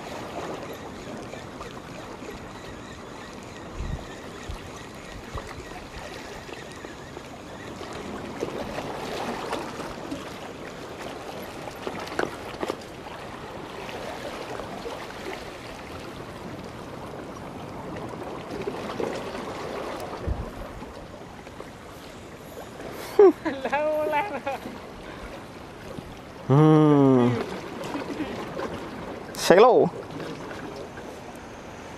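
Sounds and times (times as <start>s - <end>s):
waves lapping on rocky shore: 0.0s - 31.9s.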